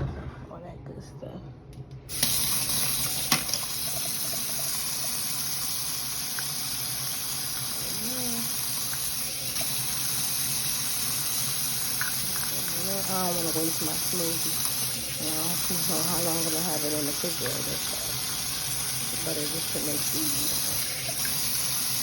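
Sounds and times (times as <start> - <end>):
water running from tap: 2.1 - 22.0.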